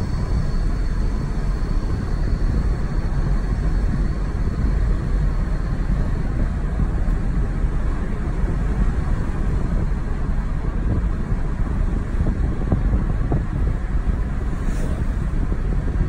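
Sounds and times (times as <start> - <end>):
tyres rumbling on wet road: 0.0 - 16.0.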